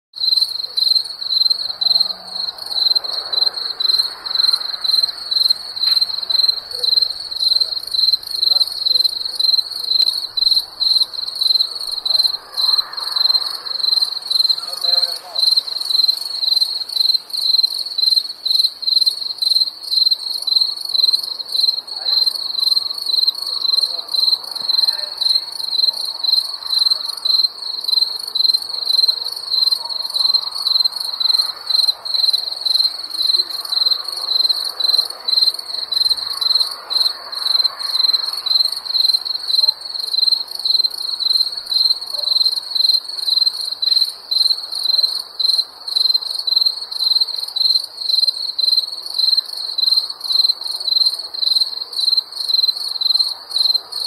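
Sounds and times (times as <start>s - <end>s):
crickets chirping: 0.2s - 54.0s.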